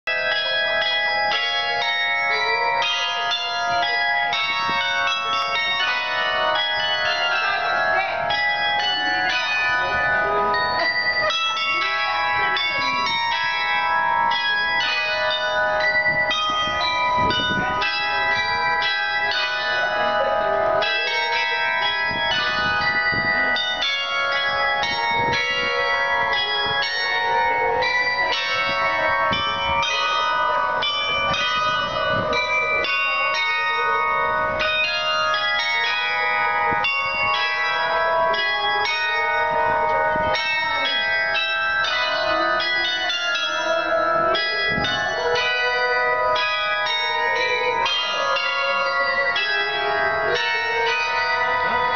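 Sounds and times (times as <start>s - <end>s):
tower bells ringing: 0.1s - 51.9s.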